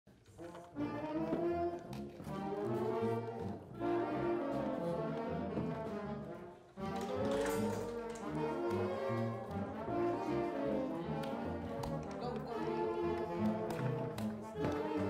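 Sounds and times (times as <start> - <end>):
brass instruments playing chords: 0.5 - 15.0.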